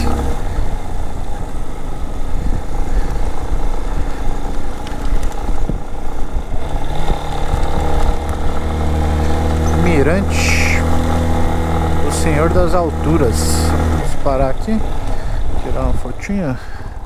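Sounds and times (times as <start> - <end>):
motorcycle engine running: 0.0 - 17.0
wind rush: 0.0 - 17.0.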